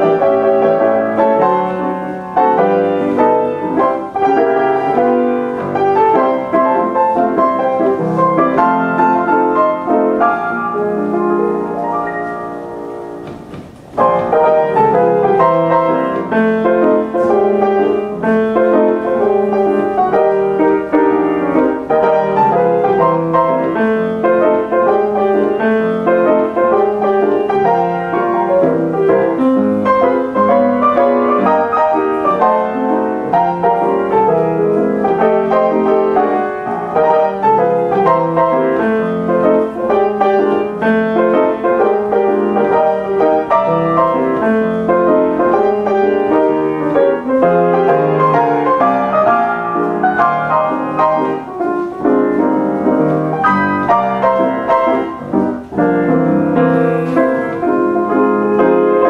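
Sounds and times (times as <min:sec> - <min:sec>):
player piano playing popular tunes: 0:00.0 - 0:59.0.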